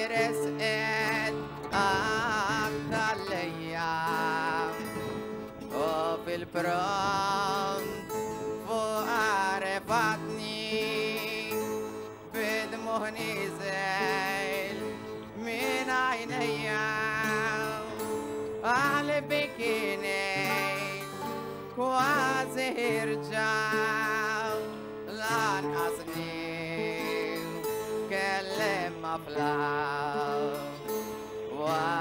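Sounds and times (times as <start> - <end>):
person singing with vibrato: 0.0 - 32.0
sustained accompaniment with bass notes: 0.0 - 32.0.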